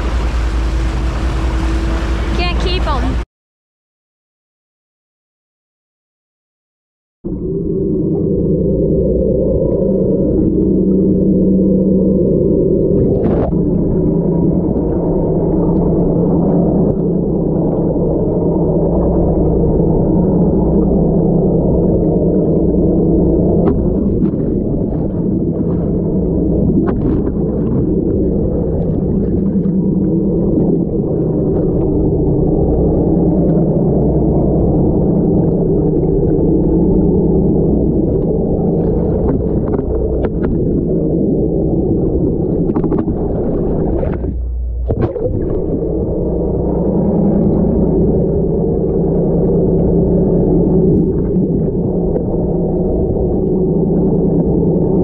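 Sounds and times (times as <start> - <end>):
muffled underwater engine drone: 0.0 - 3.2, 7.2 - 55.0.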